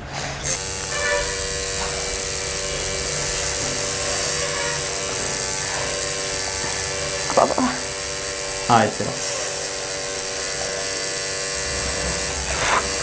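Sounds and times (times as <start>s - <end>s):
tattoo machine buzzing: 0.4s - 13.0s.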